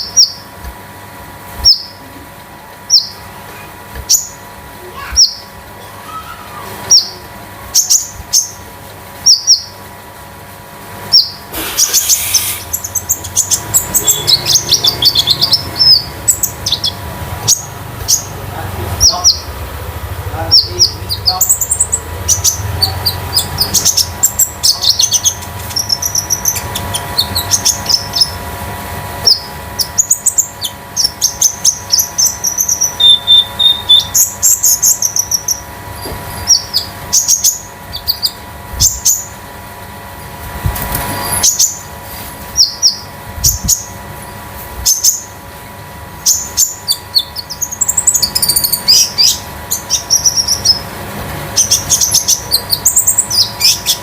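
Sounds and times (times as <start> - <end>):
songbird chirping and trilling: 0.0 - 0.5, 1.6 - 2.2, 2.8 - 9.9, 11.0 - 28.4, 29.2 - 39.4, 41.3 - 41.9, 42.5 - 45.4, 46.2 - 50.9, 51.5 - 54.0.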